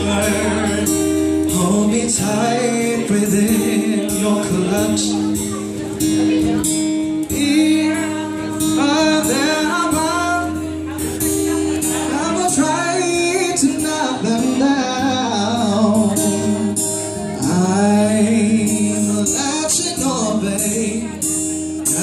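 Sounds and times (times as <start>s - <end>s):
guitar accompaniment: 0.0s - 22.0s
man singing: 0.0s - 22.0s.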